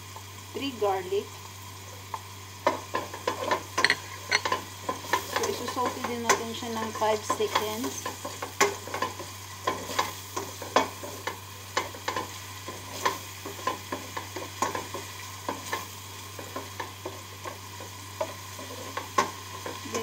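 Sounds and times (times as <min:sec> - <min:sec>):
onion and garlic sizzling in oil: 0:00.0 - 0:20.0.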